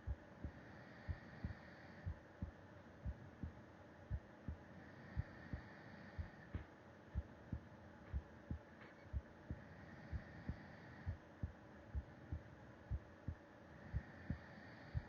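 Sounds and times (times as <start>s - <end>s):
heartbeat thumps: 0.0s - 15.0s
soft breathing: 0.0s - 15.0s.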